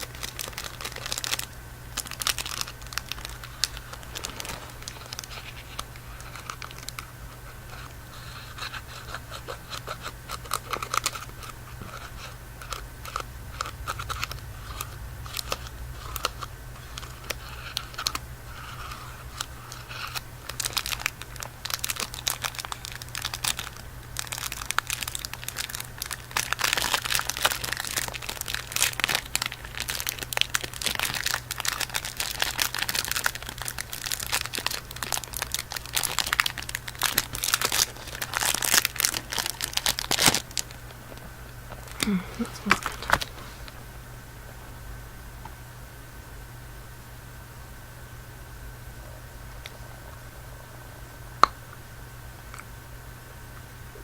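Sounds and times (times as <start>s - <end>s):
wrapper crinkling: 0.0s - 43.8s.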